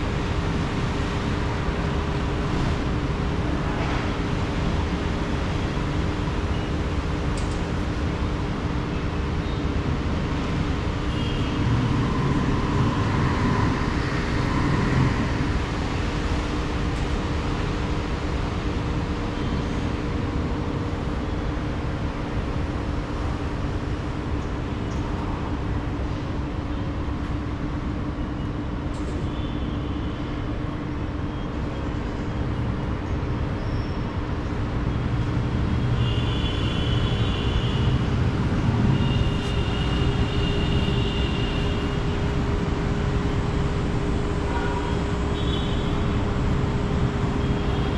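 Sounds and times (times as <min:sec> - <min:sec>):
constant low hum: 0:00.0 - 0:47.9
urban traffic noise: 0:00.0 - 0:47.9.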